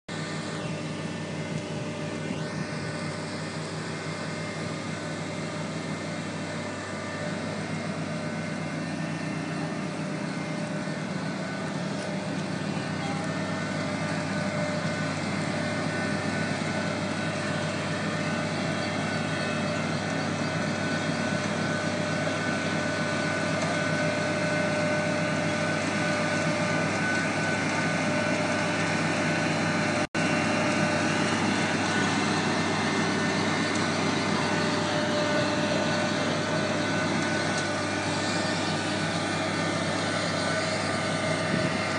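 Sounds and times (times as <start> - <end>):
diesel engine and machinery drone: 0.1 - 41.9.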